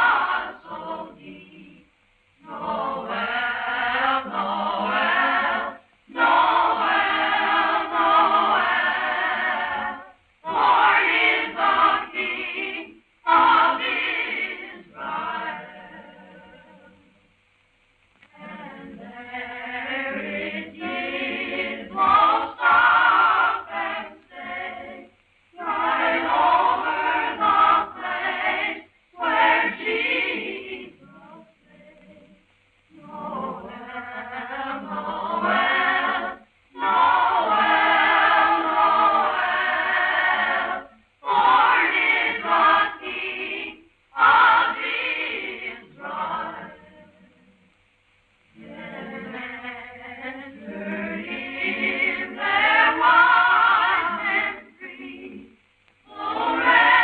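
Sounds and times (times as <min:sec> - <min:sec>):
choir singing a carol: 0:00.0 - 0:17.5, 0:18.3 - 0:57.0.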